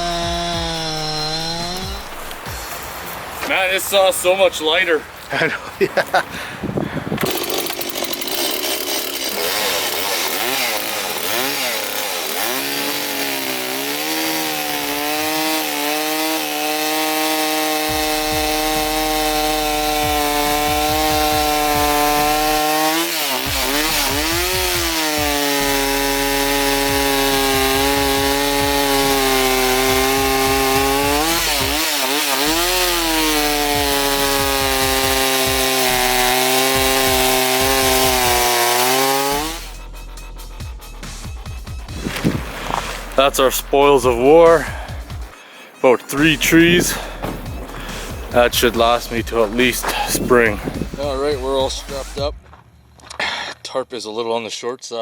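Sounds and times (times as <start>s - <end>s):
chainsaw cutting wood: 0.0s - 3.6s, 7.1s - 52.3s.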